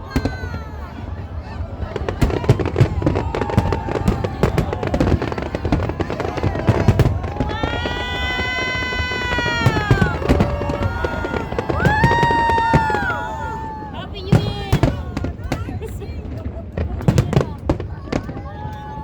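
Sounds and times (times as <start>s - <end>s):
fireworks exploding: 0.0s - 19.0s
spectators calling out: 0.0s - 19.0s.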